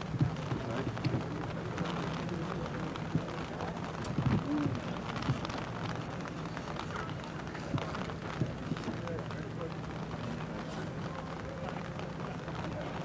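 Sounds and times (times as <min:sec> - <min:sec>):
steady crackling noise: 0:00.0 - 0:13.0.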